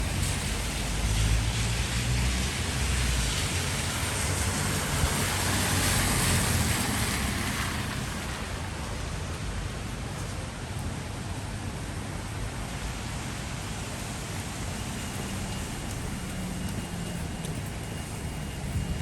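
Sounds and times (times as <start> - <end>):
rain hiss: 0.0 - 19.0
traffic on wet streets: 0.0 - 19.0.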